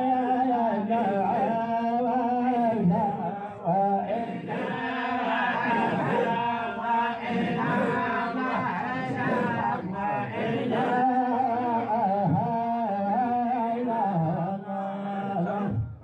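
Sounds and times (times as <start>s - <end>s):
men chanting a devotional song: 0.0s - 16.0s.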